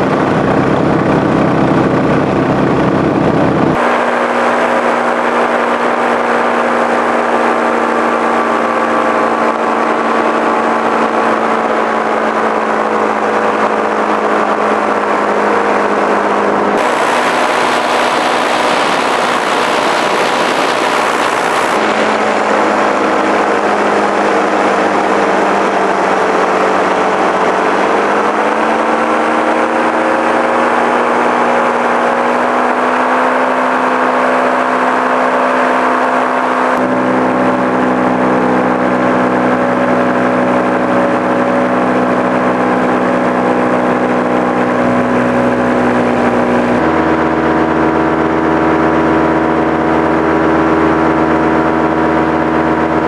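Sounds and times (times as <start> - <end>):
light aircraft engine in flight: 0.0 - 53.0.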